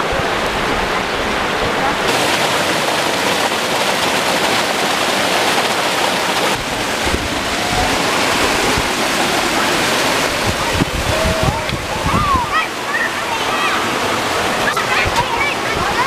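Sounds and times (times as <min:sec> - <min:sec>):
waterfall pouring over rocks: 0:00.0 - 0:16.0.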